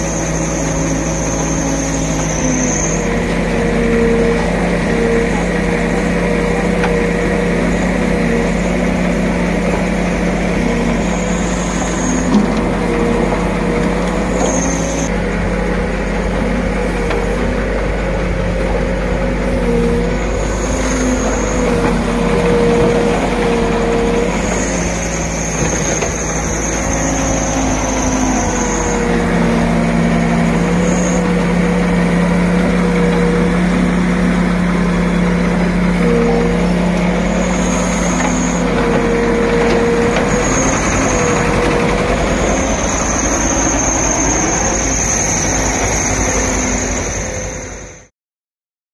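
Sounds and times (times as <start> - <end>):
diesel engine running: 0.0 - 48.1
hydraulic whine and squeals: 0.0 - 48.1.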